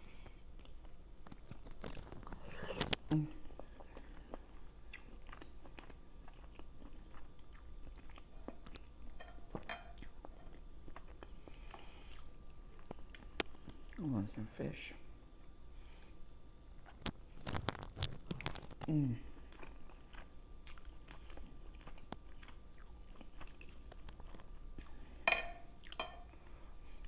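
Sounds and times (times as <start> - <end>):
chewing and biting food: 0.2 - 14.0, 16.8 - 25.2, 25.8 - 26.5.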